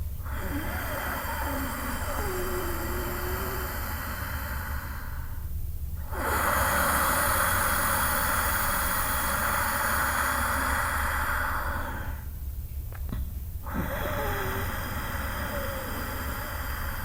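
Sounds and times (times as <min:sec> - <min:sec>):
hissing throat breathing: 0:00.0 - 0:12.3, 0:13.6 - 0:17.0.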